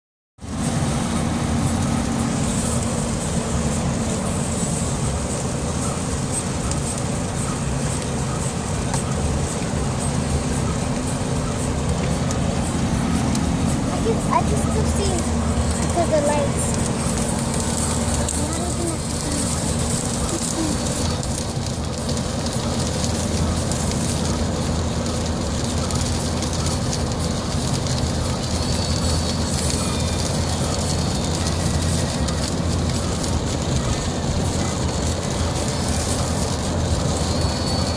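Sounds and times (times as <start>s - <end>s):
constant low rumble: 0.4s - 37.9s
heavy rain: 0.4s - 37.9s.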